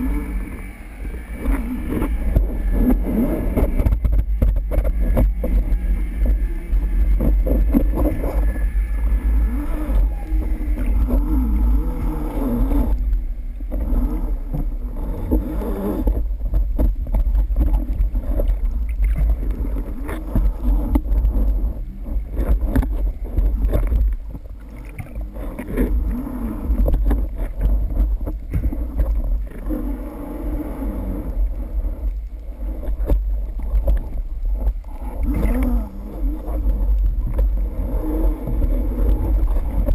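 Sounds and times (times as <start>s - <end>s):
underwater deep rumble: 0.0s - 39.9s
wavering low drone: 0.0s - 39.9s.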